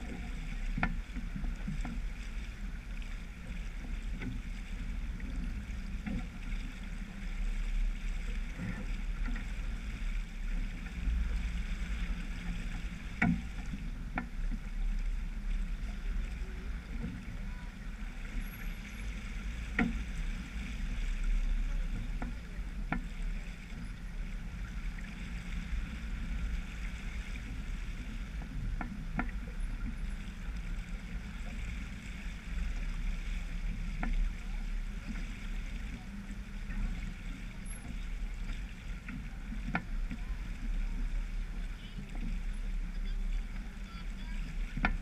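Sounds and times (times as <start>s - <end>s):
low rumble: 0.0s - 45.0s
water rushing along boat hull: 0.0s - 45.0s.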